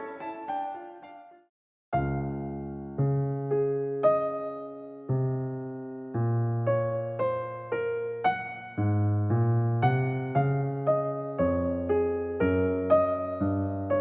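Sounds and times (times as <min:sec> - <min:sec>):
slow electric piano chords: 0:02.0 - 0:14.0.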